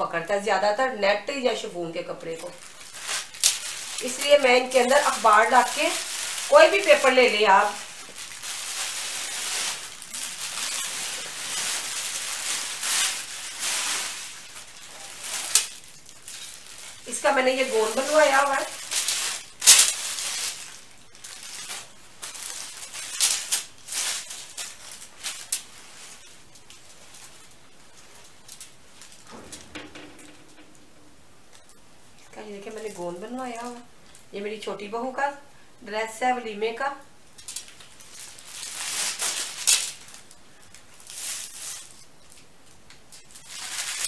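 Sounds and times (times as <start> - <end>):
paper and fabric rustling: 1.4 - 31.7, 37.4 - 42.4, 43.2 - 44.0.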